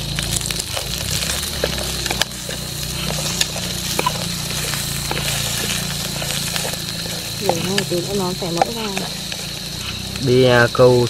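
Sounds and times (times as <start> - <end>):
utensil clicking against pan: 0.0 - 10.3
low steady drone: 0.0 - 11.0
meat sizzling in a metal pan: 0.0 - 11.0
wood fire crackling: 0.0 - 11.0.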